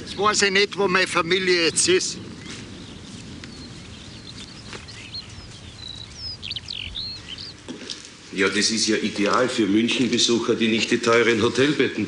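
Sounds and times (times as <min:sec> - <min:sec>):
birds chirping: 0:00.0 - 0:12.0
low outdoor noise: 0:00.0 - 0:12.0.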